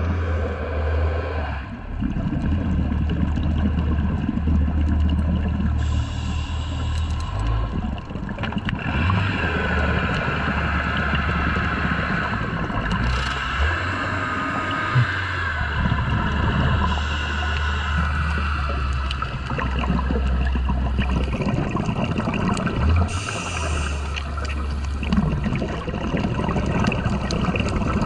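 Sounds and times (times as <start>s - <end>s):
low underwater drone: 0.0s - 28.0s
scuba bubbles gurgling: 1.7s - 28.0s.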